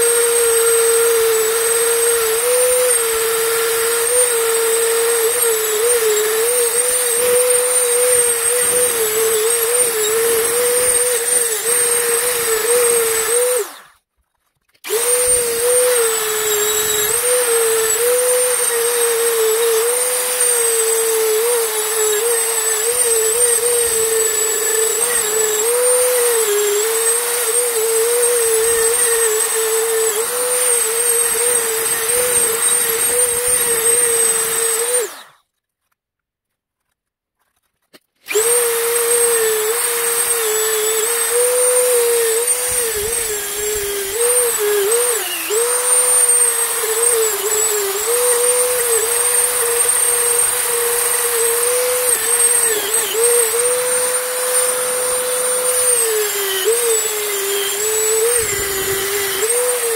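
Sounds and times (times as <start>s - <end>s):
rotary tool whining on metal: 0.0s - 14.0s, 14.7s - 35.4s, 38.2s - 59.9s.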